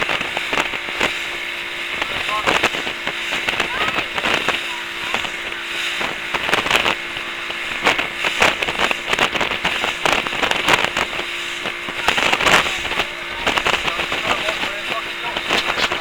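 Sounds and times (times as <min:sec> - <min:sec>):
crackles and knocks: 0:00.0 - 0:16.0
steady mechanical hum: 0:00.0 - 0:16.0.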